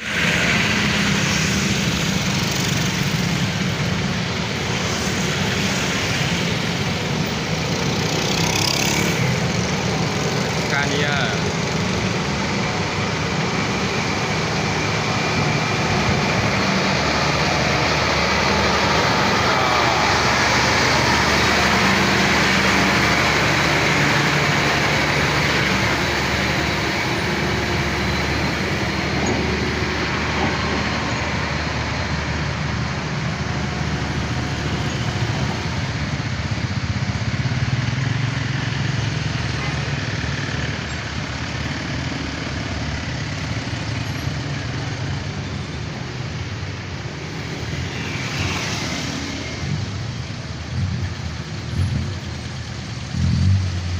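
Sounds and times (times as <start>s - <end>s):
heavy trucks passing: 0.0s - 53.9s.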